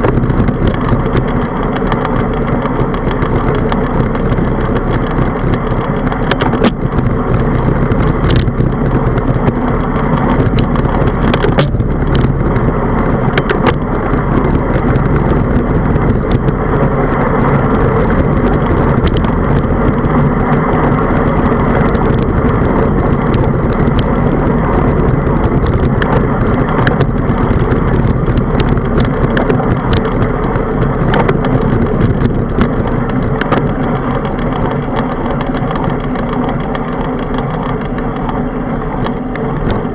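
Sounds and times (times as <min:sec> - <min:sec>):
bicycle riding on paved road: 0:00.0 - 0:39.9
rattling clicks from bumps: 0:00.0 - 0:39.9.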